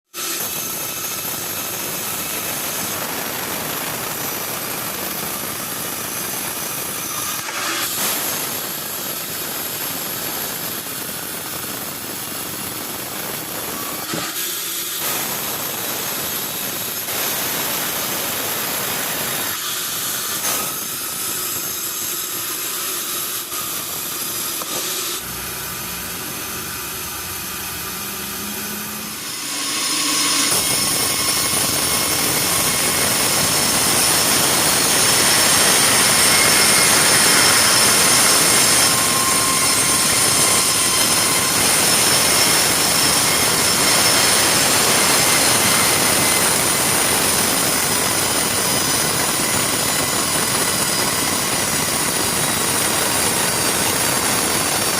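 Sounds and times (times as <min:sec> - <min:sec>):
sawmill saw cutting timber: 0:00.1 - 0:54.9.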